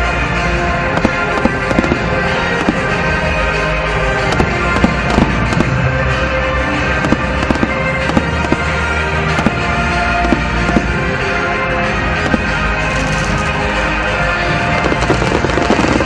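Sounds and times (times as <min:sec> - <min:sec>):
music playing: 0:00.0 - 0:16.0
fireworks bangs: 0:00.2 - 0:16.0.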